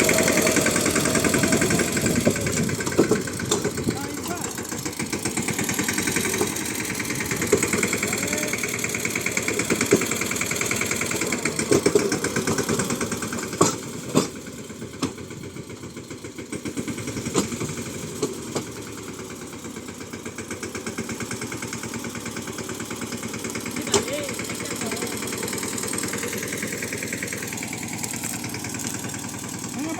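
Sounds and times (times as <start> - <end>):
diesel tractor engine chugging: 0.0 - 29.9.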